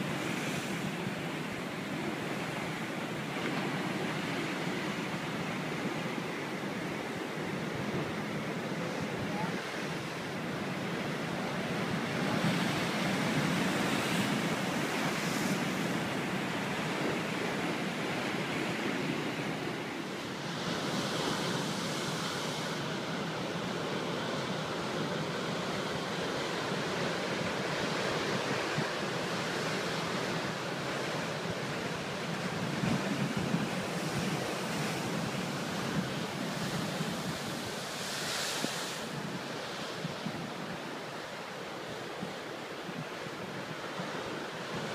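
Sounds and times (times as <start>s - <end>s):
waves breaking on rocky shore: 0.0s - 44.9s.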